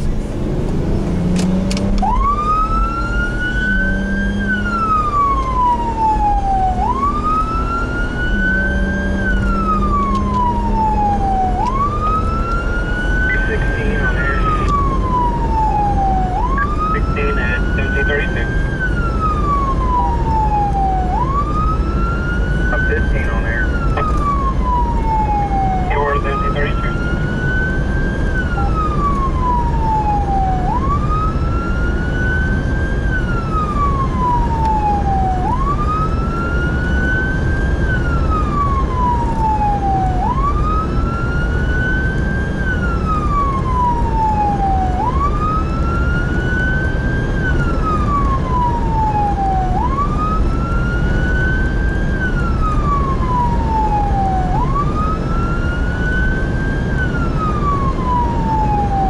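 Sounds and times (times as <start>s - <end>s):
emergency siren wailing: 0.0s - 59.0s
road and engine noise: 0.0s - 59.0s.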